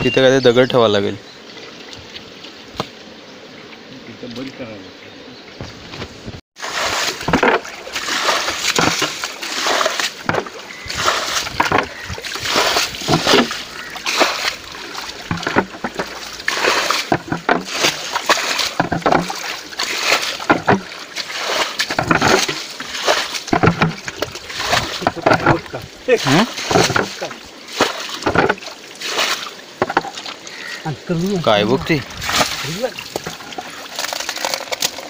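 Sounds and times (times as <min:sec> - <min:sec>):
muddy water splashing and sloshing: 0:06.6 - 0:35.0.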